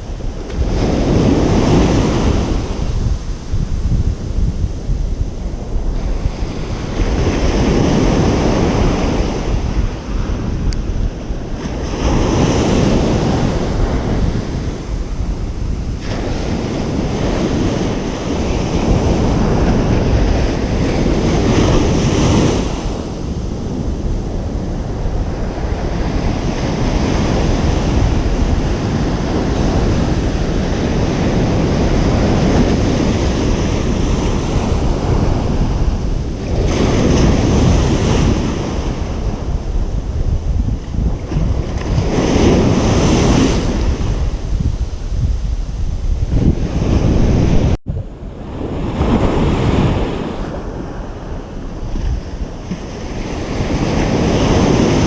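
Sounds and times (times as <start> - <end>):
ocean waves breaking on beach: 0.0 - 55.0
wind buffeting microphone: 0.0 - 55.0.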